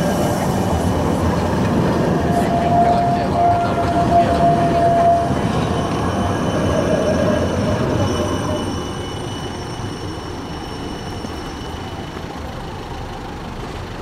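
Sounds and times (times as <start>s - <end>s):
tram rolling rumble: 0.0s - 14.0s
tram wheels squealing: 0.0s - 14.0s.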